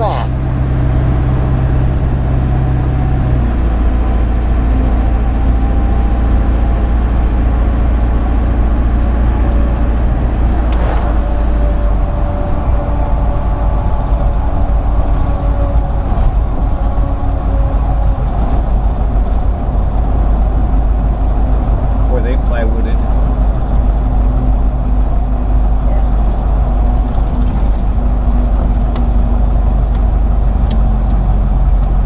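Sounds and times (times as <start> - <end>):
vehicle engine and tyres rumbling: 0.0 - 32.0.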